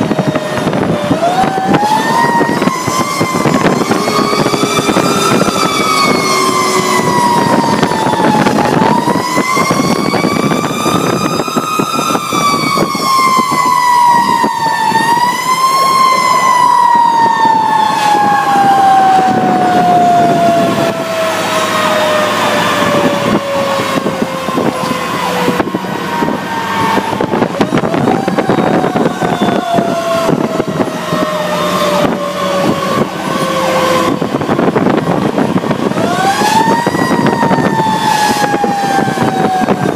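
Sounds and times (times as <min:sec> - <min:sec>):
fire truck siren wailing: 0:00.0 - 0:39.9
truck engine and road noise: 0:00.0 - 0:39.9.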